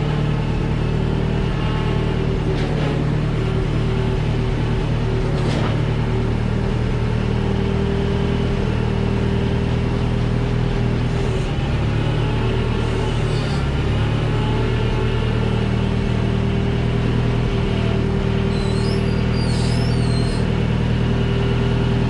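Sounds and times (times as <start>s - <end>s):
skid steer engine running: 0.0s - 22.0s.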